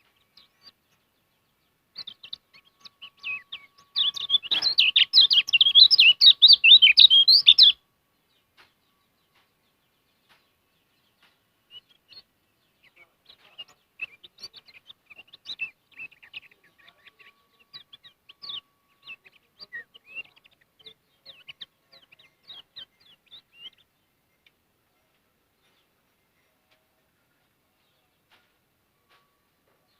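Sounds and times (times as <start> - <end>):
songbird chirping: 0.0 - 29.9.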